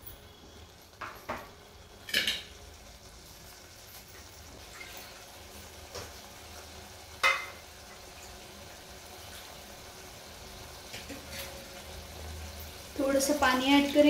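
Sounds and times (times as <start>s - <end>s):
meat sizzling in a pot: 0.0s - 14.0s.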